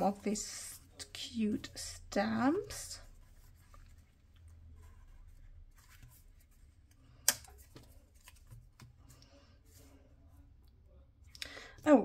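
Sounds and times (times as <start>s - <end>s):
paper rustling: 0.0s - 10.0s.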